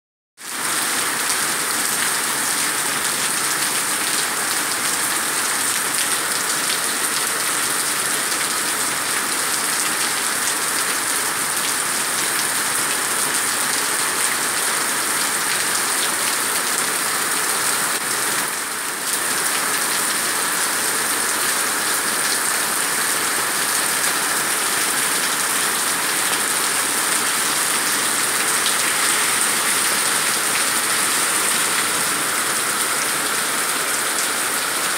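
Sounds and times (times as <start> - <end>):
rain on stone paving: 0.4 - 34.9.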